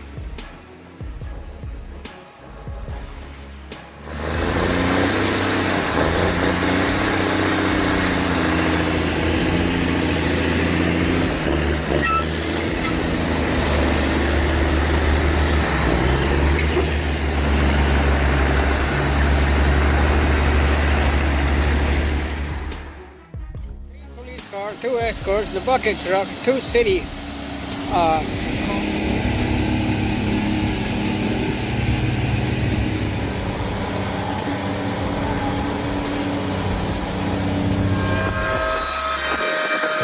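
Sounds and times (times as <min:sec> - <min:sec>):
truck diesel engine droning: 0:00.0 - 0:23.2, 0:24.6 - 0:40.0.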